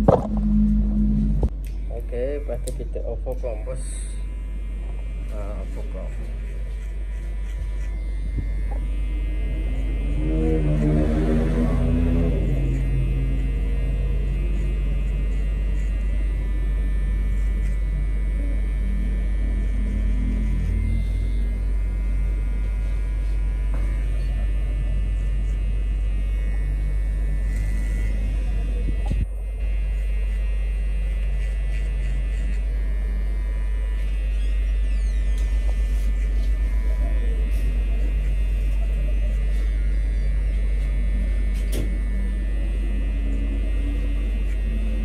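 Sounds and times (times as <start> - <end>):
hair clipper motor humming: 1.4 - 45.0.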